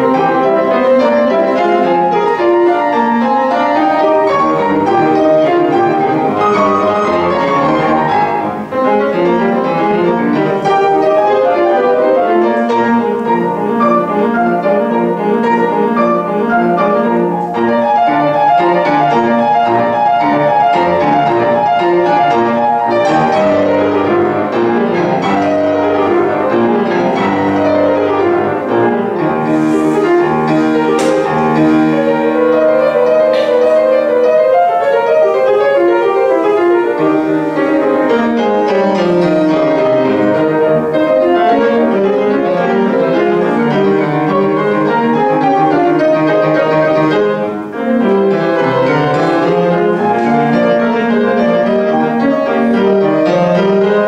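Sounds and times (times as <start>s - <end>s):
grand piano playing fast runs: 0.0s - 54.0s.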